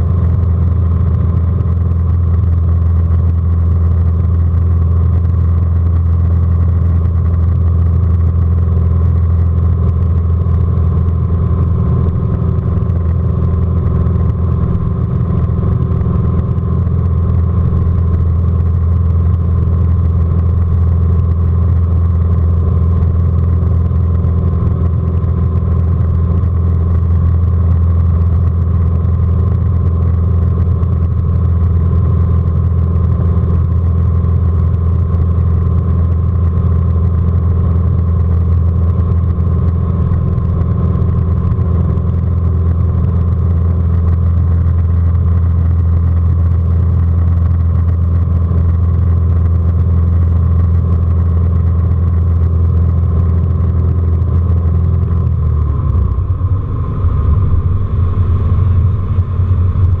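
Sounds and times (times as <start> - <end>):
propeller plane engine running: 0.0 - 60.0.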